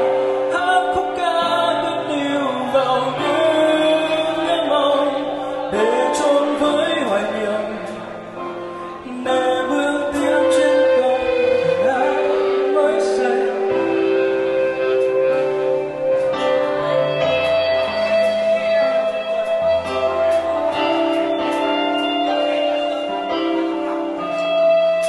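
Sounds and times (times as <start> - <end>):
person singing: 0.0 - 25.0
rock band playing live: 0.0 - 25.0
sustained electric guitar notes: 0.0 - 25.0.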